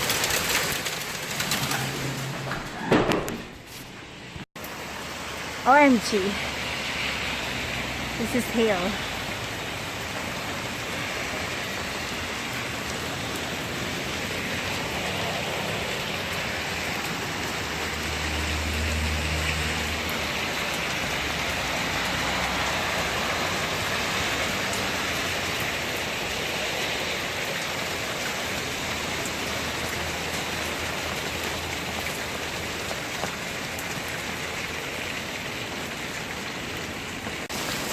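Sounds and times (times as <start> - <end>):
hail falling: 0.0 - 2.7, 8.4 - 37.9.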